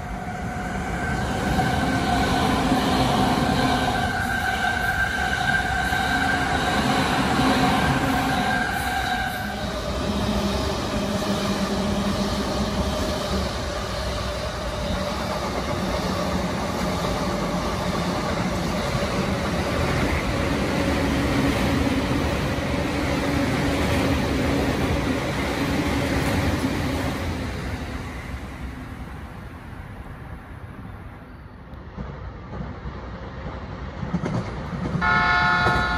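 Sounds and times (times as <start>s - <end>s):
train wheel and rail noise: 0.0s - 35.9s.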